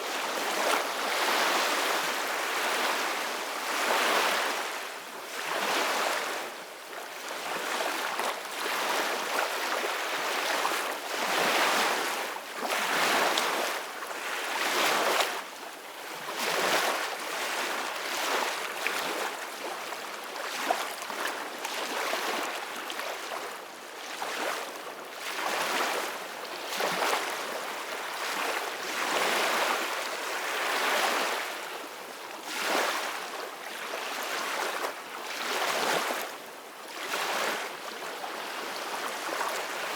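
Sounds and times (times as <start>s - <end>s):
small ocean waves washing ashore: 0.0s - 39.9s.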